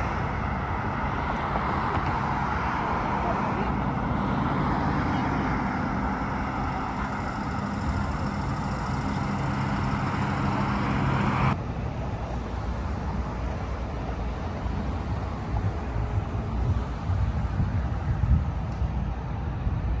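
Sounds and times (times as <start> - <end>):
traffic noise: 0.0 - 20.0
vehicle engine humming: 0.0 - 20.0.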